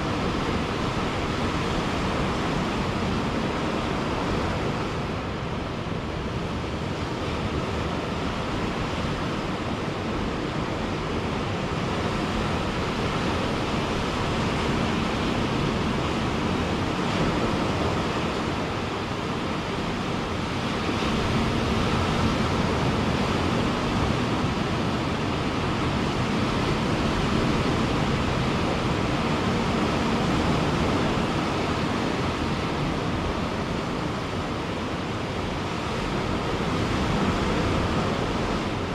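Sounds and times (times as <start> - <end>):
ocean surf on beach: 0.0 - 38.9.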